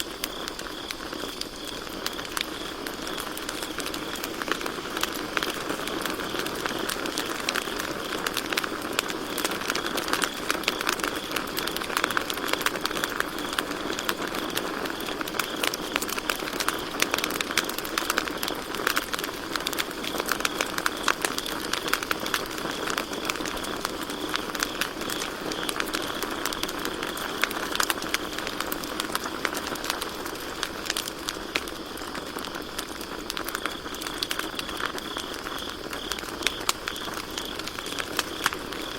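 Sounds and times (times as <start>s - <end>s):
campfire crackling and popping: 0.0s - 38.9s
crickets trilling: 0.0s - 38.9s.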